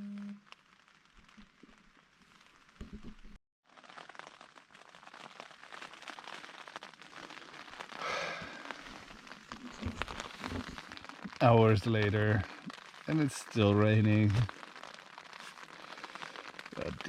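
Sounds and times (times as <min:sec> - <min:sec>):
rain pattering on a tent: 0:00.0 - 0:17.0.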